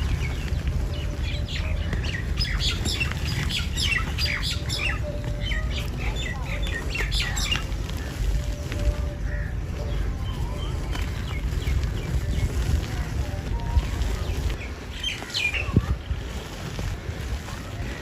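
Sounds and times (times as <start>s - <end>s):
birds chirping and squawking: 0.0s - 16.5s
steady low rumble: 0.0s - 18.0s.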